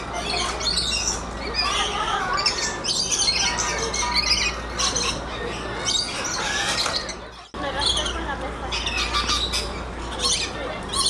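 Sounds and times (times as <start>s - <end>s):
birds squawking and chirping: 0.0s - 11.0s.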